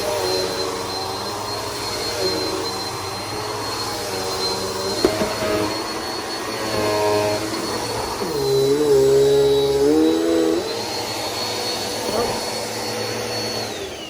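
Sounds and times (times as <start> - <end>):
upright vacuum motor whine: 0.0 - 14.0.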